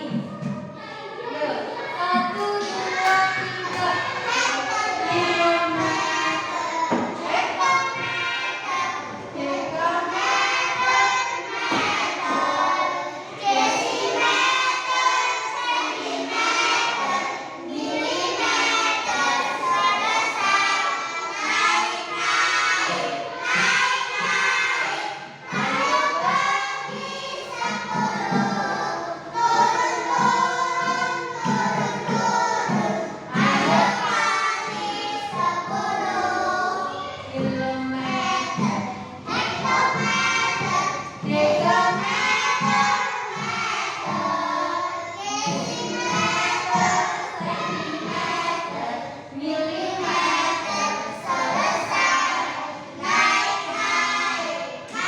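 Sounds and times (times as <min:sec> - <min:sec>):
children singing in unison: 0:00.0 - 0:55.0.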